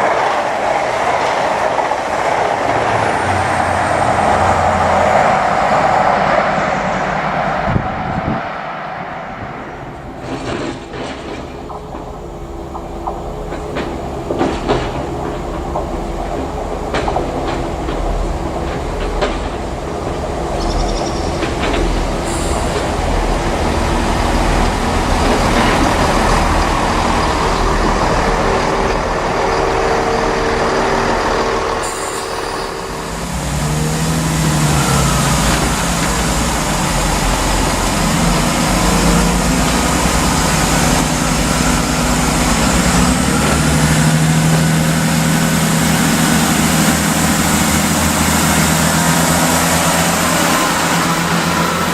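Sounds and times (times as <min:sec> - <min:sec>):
train passing: 0:00.0 - 0:51.9.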